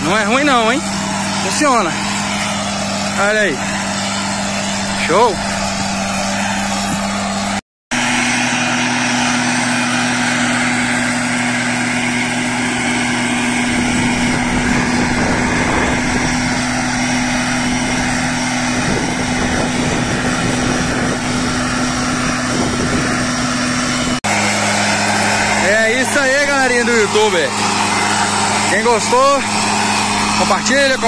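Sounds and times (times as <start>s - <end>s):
high hum: 0.0s - 31.0s
tractor engine drone: 0.0s - 31.0s
two-stroke sprayer engine: 0.0s - 31.0s.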